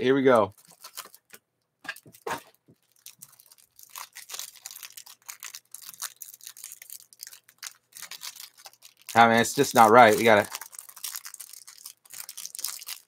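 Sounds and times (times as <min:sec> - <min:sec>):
cards rustling: 0:00.3 - 0:13.0
packaging ripping and crinkling: 0:00.3 - 0:13.0.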